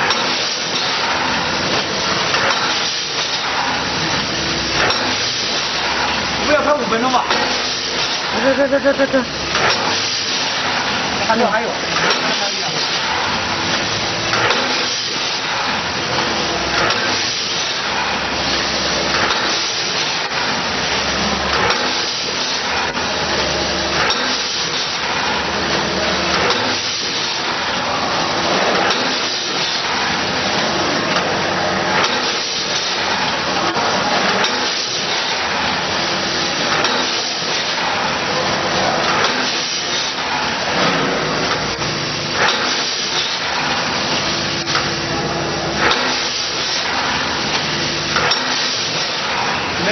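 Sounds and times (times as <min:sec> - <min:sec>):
machine clacking: 0:00.0 - 0:49.9
packaging machine running: 0:00.0 - 0:49.9.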